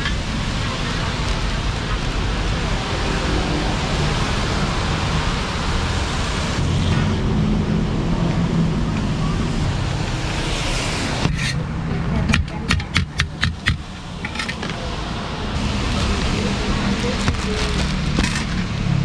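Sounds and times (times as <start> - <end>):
road traffic noise: 0.0 - 19.0
vehicle engine humming: 0.0 - 19.0.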